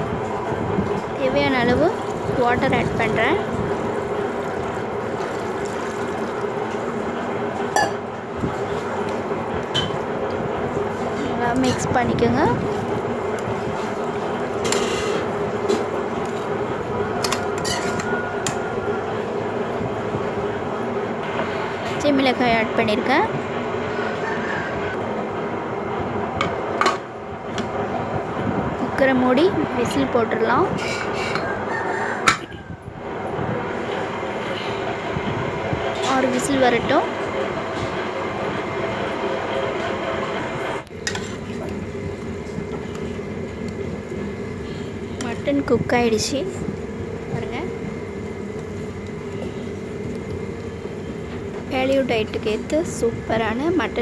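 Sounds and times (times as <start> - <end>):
steady rumbling hum: 0.0 - 54.0.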